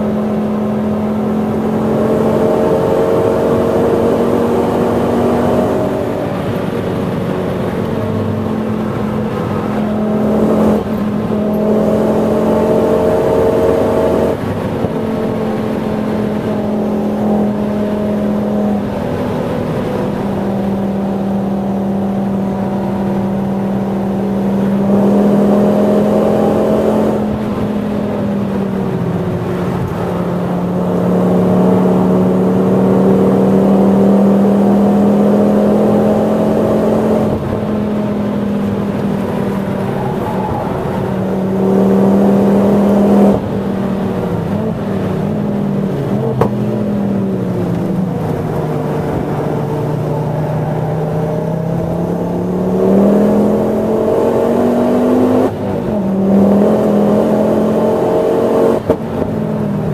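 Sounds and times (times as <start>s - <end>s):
car engine pulling hard: 0.0s - 59.9s.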